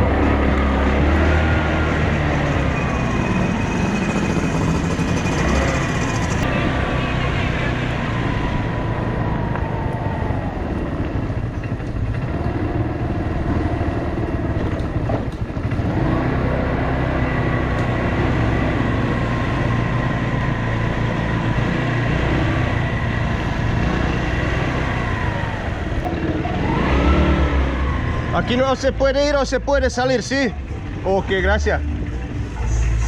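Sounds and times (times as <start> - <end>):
motorbike engine running: 0.0 - 29.0.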